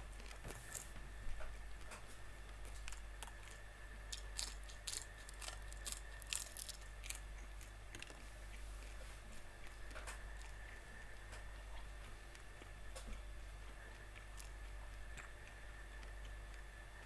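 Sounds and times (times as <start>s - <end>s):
chewing prawn shells: 1.8s - 9.0s, 9.6s - 17.0s.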